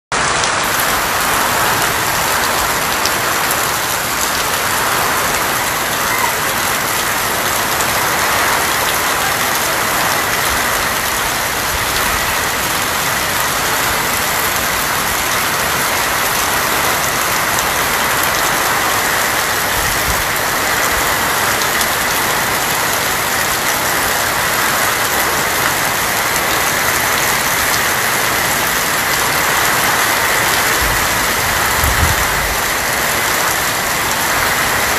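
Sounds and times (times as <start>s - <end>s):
rain on a tin roof: 0.1s - 34.9s.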